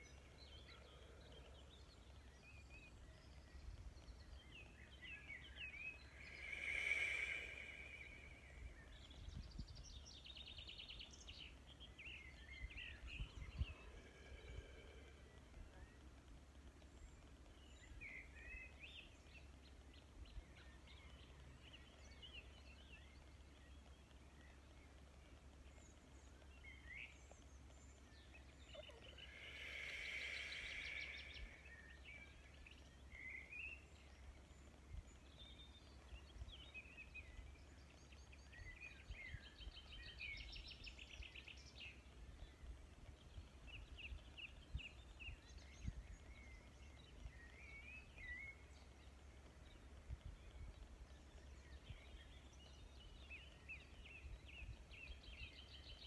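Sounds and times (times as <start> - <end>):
low steady rumble: 0.0 - 55.9
birdsong chirps and trills: 0.0 - 56.0.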